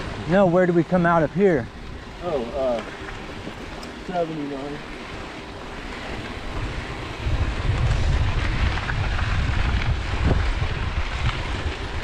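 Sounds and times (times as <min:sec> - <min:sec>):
bike tyres rolling on gravel: 0:00.0 - 0:12.0
wind buffeting microphone: 0:00.0 - 0:12.0.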